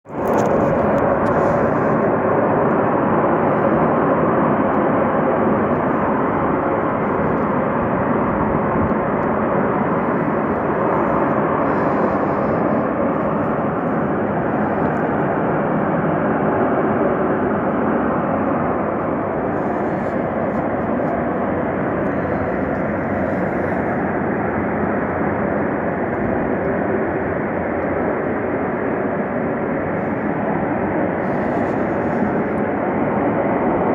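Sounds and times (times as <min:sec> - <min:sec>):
steam venting under pressure: 0:00.4 - 0:33.7.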